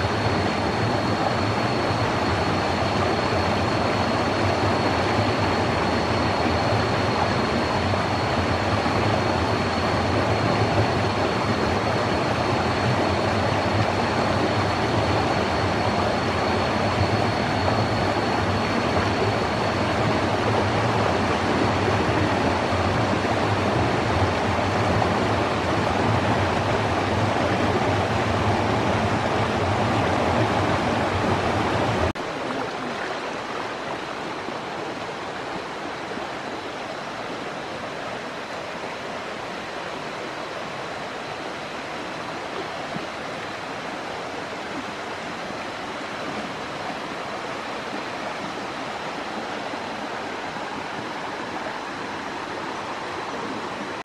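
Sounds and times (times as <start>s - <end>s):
shallow stream rushing: 0.0s - 54.0s.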